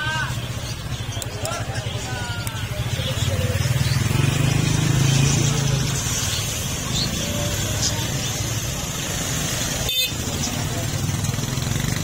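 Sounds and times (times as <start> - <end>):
busy street noise: 0.0 - 12.0
people talking: 0.0 - 12.0
motorcycle engine running: 0.1 - 12.0.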